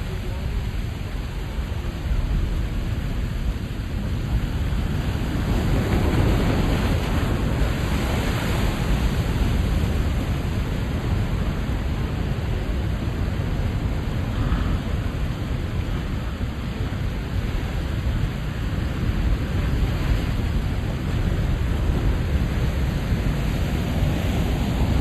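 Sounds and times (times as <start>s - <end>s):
ocean waves breaking on rocks: 0.0s - 25.0s.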